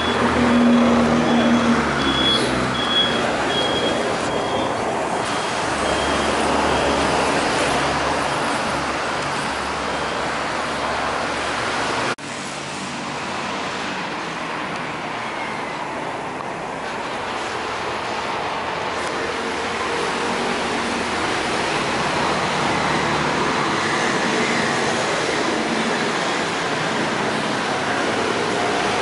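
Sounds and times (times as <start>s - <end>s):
passing vehicles: 0.0s - 29.0s.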